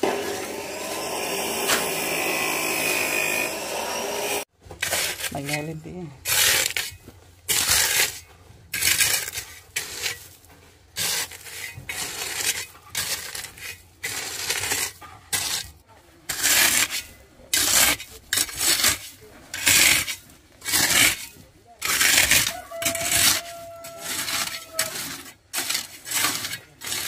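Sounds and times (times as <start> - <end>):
hand tool scraping masonry: 0.0 - 27.0.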